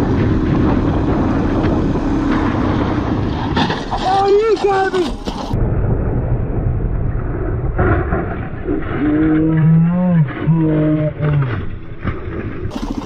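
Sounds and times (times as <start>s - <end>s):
long low drawn-out tones: 0.0s - 4.5s, 5.6s - 12.7s
vehicle rumble: 0.0s - 13.0s.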